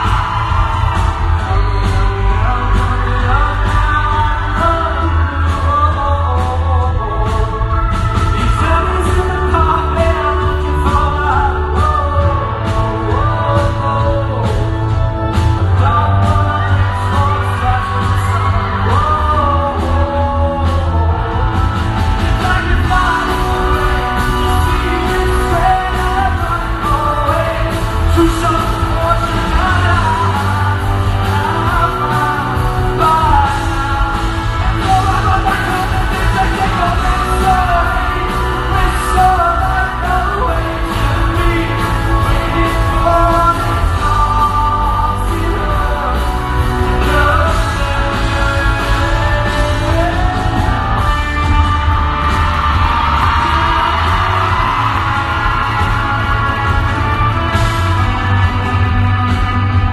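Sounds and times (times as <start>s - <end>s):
live rock band: 0.0s - 59.9s
man singing: 0.0s - 59.9s
steady drum beat: 0.0s - 59.9s.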